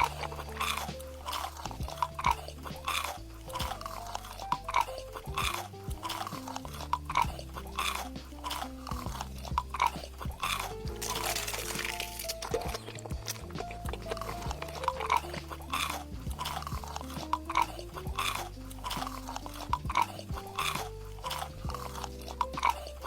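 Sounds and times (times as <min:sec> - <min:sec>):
background music: 0:00.0 - 0:23.0
person crunching and chewing food: 0:00.0 - 0:23.0.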